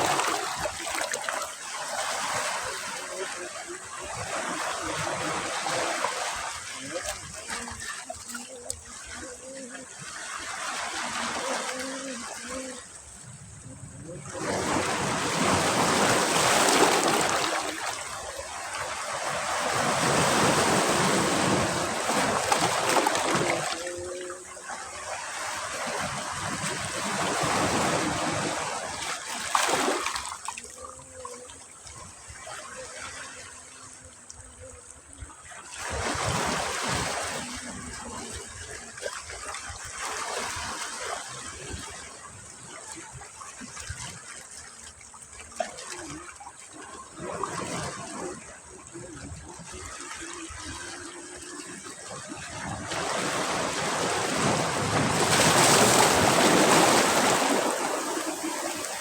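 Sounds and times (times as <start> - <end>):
sea waves breaking on beach: 0.0 - 59.0.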